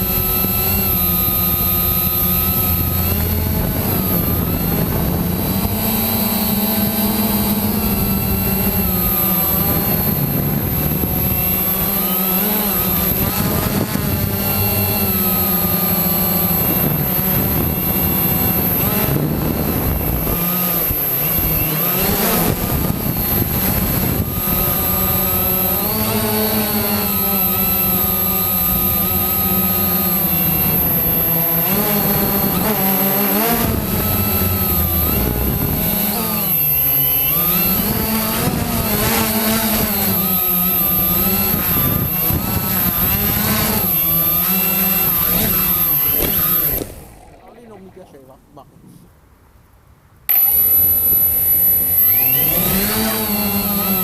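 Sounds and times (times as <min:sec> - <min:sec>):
drone motors and propellers whining: 0:00.0 - 0:48.5, 0:50.3 - 0:54.0.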